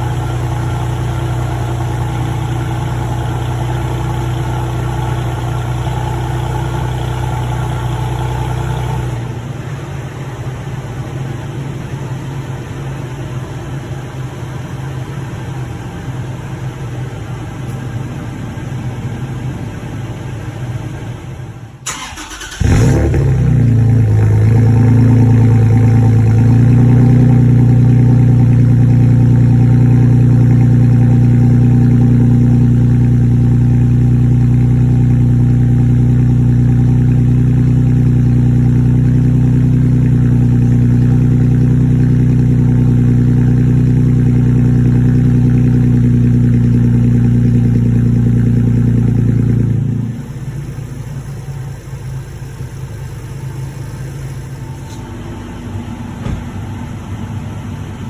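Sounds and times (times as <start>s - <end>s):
truck engine starting and idling: 0.0s - 58.0s.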